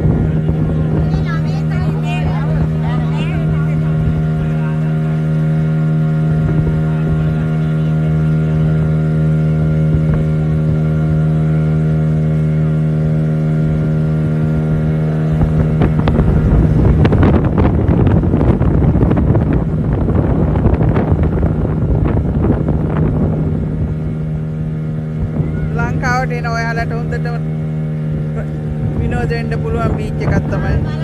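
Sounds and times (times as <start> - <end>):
motorboat engine humming: 0.0 - 31.0
rushing water and wind: 0.0 - 31.0.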